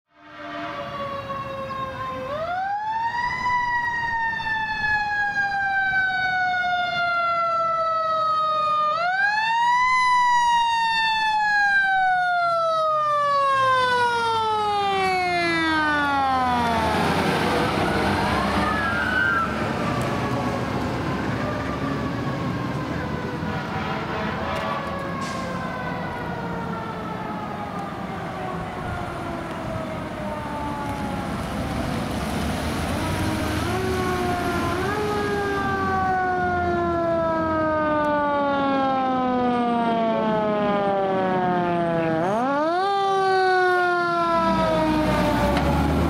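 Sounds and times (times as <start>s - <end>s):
engine and road noise: 0.1s - 46.0s
faint distant siren: 0.1s - 46.0s
fire engine siren: 0.1s - 46.0s.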